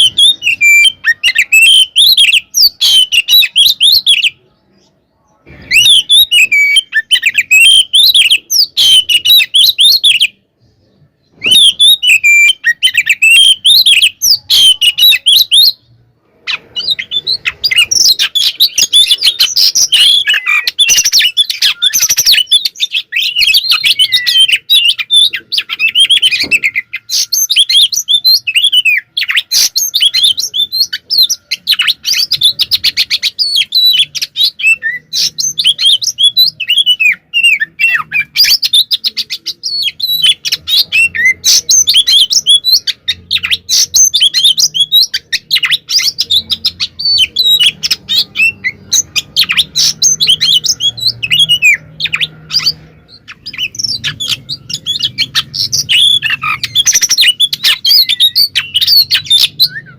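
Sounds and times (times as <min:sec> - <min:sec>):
bird singing fast song: 0:00.0 - 0:59.9.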